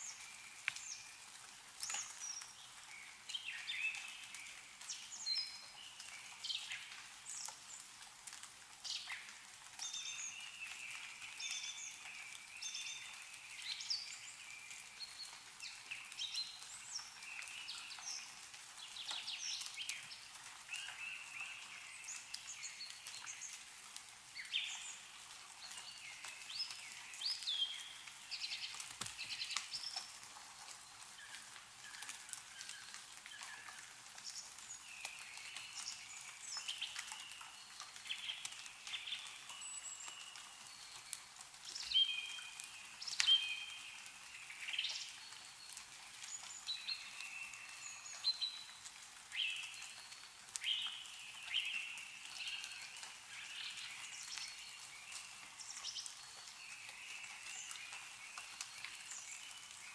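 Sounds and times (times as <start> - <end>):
melting snow dripping: 0.0 - 59.9
songbirds chirping: 0.0 - 59.9.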